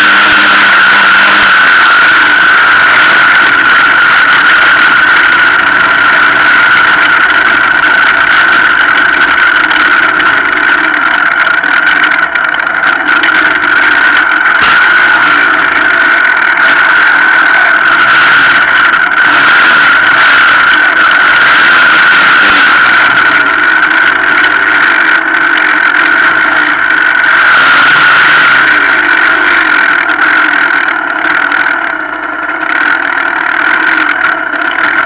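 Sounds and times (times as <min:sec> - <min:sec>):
high-pitched whine: 0:00.0 - 0:35.0.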